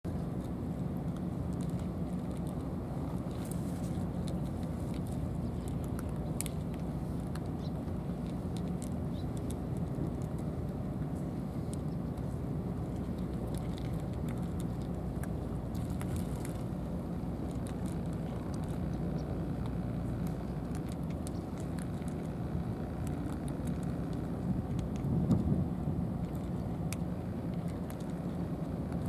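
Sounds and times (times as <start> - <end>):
low outdoor rumble: 0.1 - 29.0
cats crunching food: 0.2 - 29.0.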